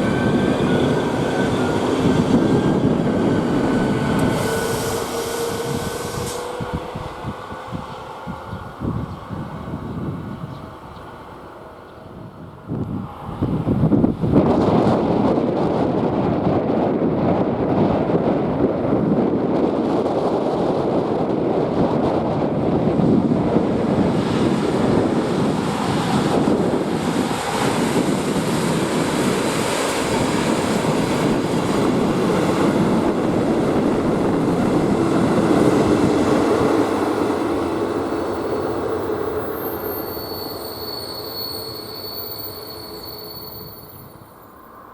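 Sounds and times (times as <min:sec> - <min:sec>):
train wheels rumbling on rails: 0:00.0 - 0:44.8.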